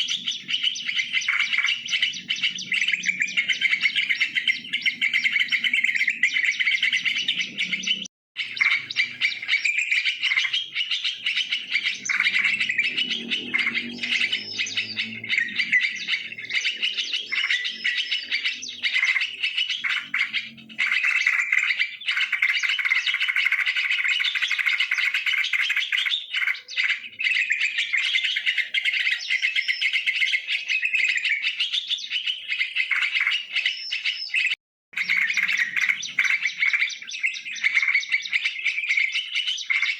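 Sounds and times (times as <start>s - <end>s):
bulbuls chirping and chattering: 0.0s - 39.9s.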